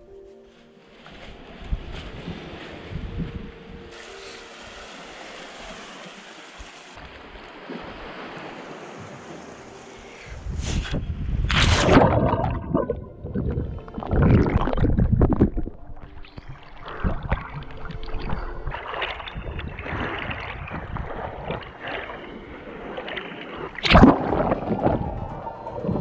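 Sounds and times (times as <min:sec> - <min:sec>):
water splashing and gurgling: 0:01.0 - 0:26.0
underwater rush: 0:03.9 - 0:26.0.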